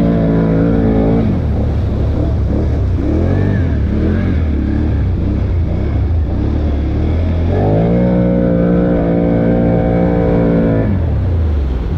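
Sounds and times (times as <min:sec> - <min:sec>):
atv engine revving: 0:00.0 - 0:11.3.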